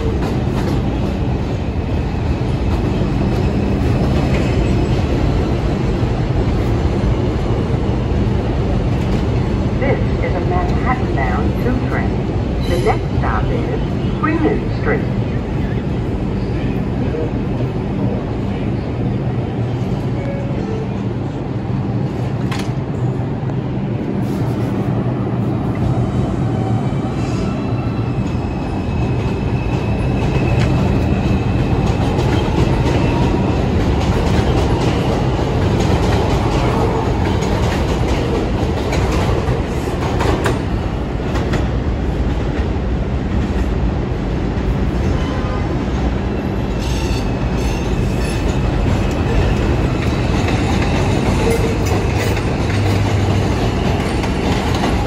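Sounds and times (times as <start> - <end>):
subway train rumble: 0.0 - 55.0.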